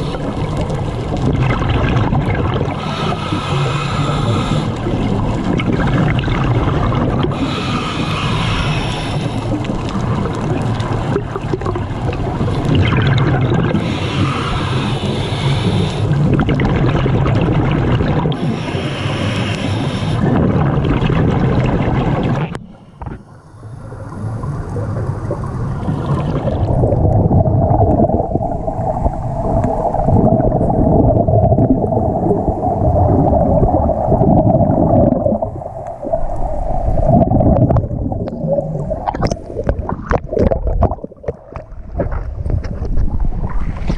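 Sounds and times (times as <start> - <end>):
water splashing: 0.0 - 23.3, 23.9 - 43.9
underwater bubbles gurgling: 0.0 - 43.9.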